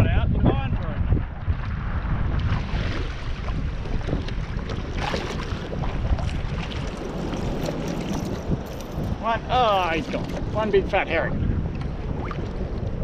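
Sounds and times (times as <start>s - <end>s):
wind buffeting microphone: 0.0s - 13.0s
water lapping against kayak hull: 0.8s - 13.0s.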